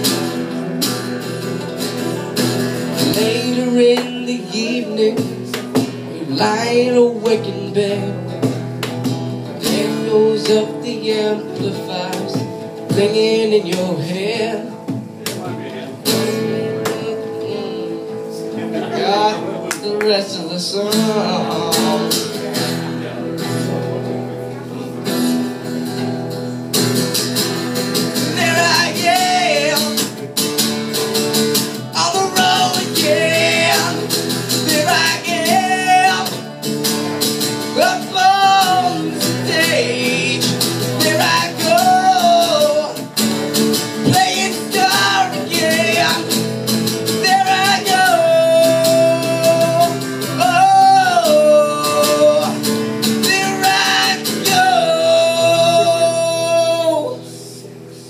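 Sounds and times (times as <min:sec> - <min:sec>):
man singing: 0:00.0 - 0:15.3, 0:16.0 - 0:22.8, 0:27.8 - 0:57.8
acoustic guitars strummed: 0:00.0 - 0:58.0.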